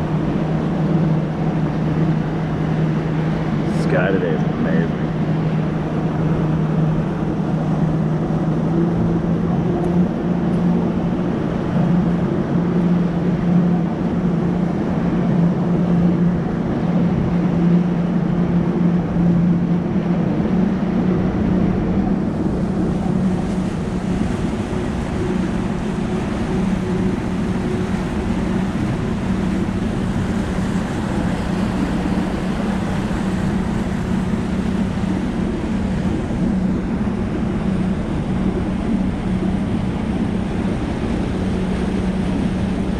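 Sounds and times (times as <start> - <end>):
outboard motor running at speed: 0.0 - 42.9
rushing water noise: 0.0 - 42.9.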